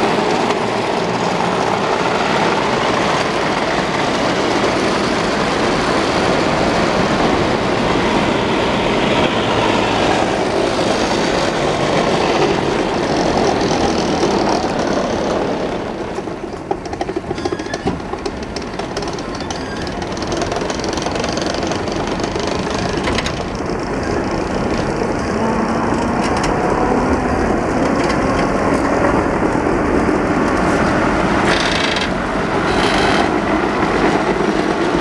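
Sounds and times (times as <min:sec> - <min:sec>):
tram wheels rumbling on rail: 0:00.0 - 0:35.0.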